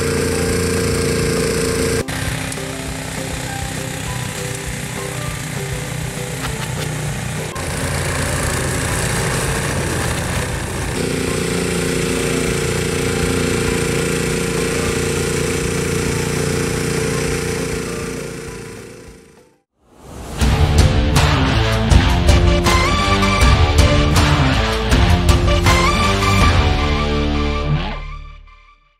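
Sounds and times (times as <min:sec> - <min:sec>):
engine drone: 0:00.0 - 0:19.7, 0:20.4 - 0:28.1
snowblower rushing: 0:00.0 - 0:27.9.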